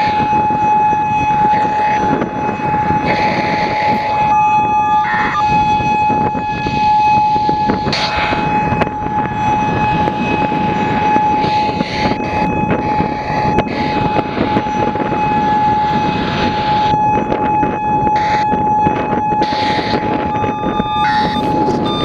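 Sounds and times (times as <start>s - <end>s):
electronic siren steady tone: 0.0s - 22.0s
wind buffeting microphone: 0.0s - 22.0s.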